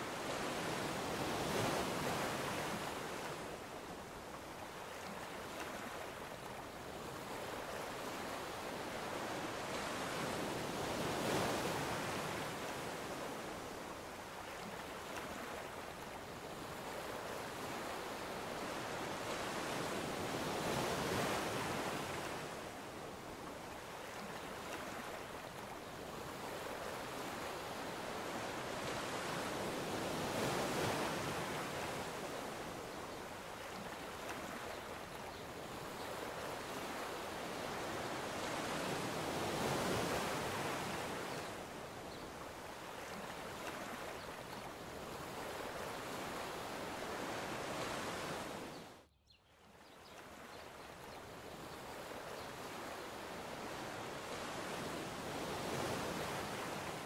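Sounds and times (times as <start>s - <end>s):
ocean surf washing ashore: 0.0s - 48.7s.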